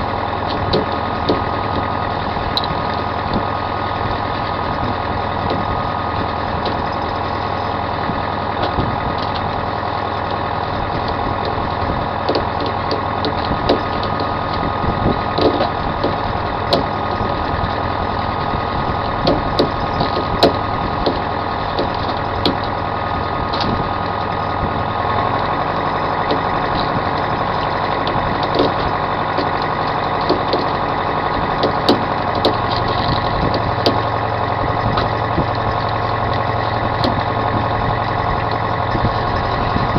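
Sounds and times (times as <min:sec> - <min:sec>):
boat engine running: 0:00.0 - 0:39.9
sharp clicks and knocks: 0:00.4 - 0:03.5, 0:04.4 - 0:07.8, 0:08.5 - 0:39.9.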